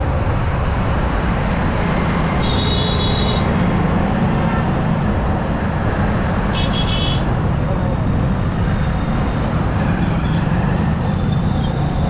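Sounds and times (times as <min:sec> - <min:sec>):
motorcycle road and wind noise: 0:00.0 - 0:12.0.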